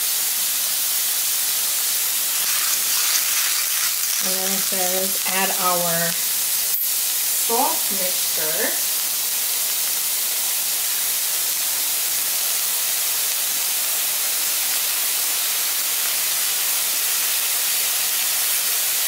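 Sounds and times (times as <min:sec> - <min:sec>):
liquid sizzling in hot pan: 0:00.0 - 0:19.0.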